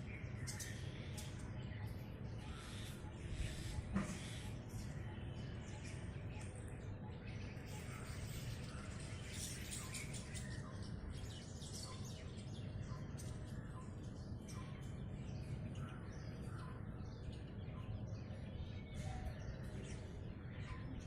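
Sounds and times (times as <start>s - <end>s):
many birds chirping: 0.0s - 21.0s.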